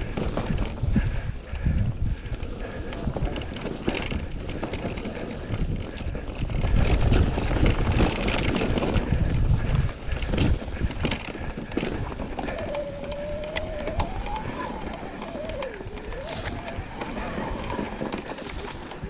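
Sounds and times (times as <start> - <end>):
electric mountain bike rumble: 0.0 - 19.0
tyres and frame rattling: 0.0 - 19.0
wind buffeting microphone: 0.0 - 19.0.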